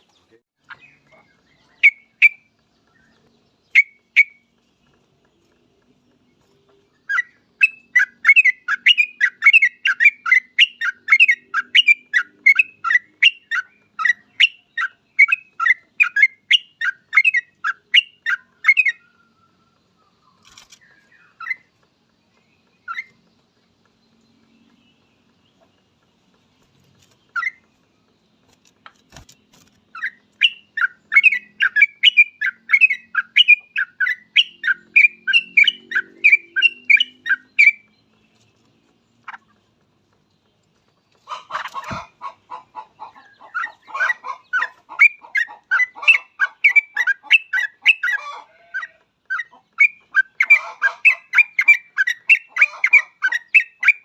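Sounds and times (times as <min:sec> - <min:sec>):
bird singing rapid chirps: 0:00.0 - 0:54.0.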